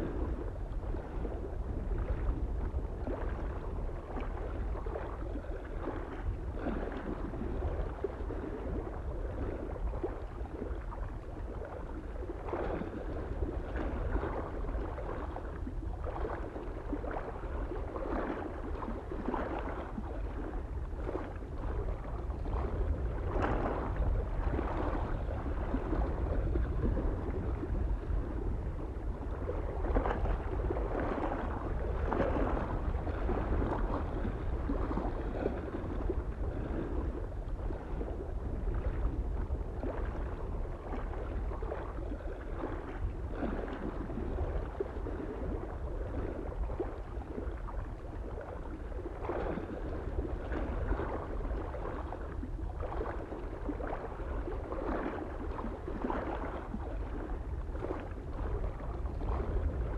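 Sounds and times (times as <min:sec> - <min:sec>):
small waves lapping on shore: 0:00.0 - 0:59.9
wind rumble on microphone: 0:00.0 - 0:59.9.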